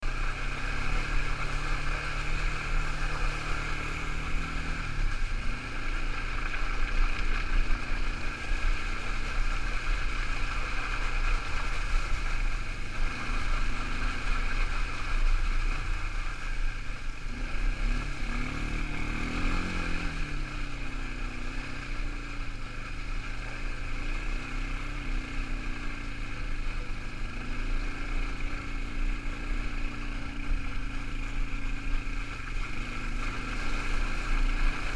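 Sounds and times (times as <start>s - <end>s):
quad bike engine running: 0.0s - 34.9s.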